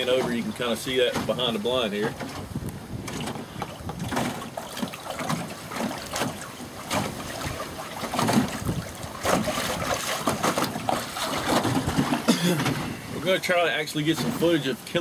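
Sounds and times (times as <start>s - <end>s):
water slapping against boat hull: 0.0s - 15.0s
wind buffeting microphone: 0.0s - 15.0s.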